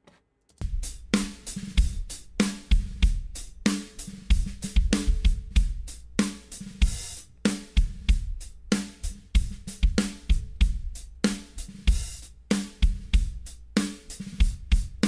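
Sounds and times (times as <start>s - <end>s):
drum kit playing a beat: 0.6s - 15.0s.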